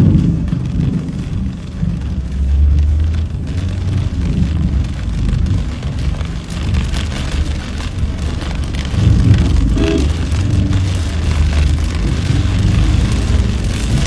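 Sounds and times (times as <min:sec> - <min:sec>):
loud low rumble: 0:00.0 - 0:14.0
rain falling: 0:00.0 - 0:14.0.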